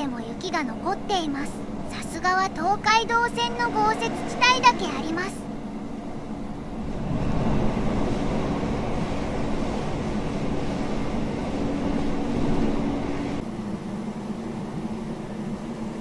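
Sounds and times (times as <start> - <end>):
train motor hum: 0.0 - 16.0
wheel-on-rail rumble: 0.0 - 16.0.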